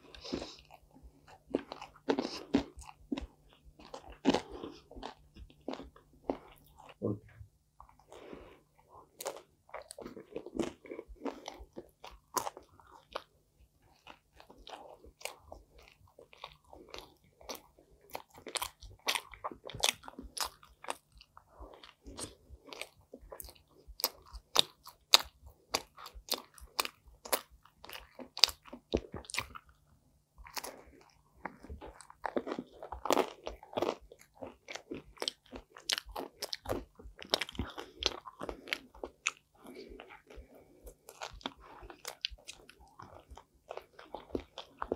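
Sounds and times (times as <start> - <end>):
pizza crunching and chewing: 0.0 - 7.2, 7.8 - 44.9.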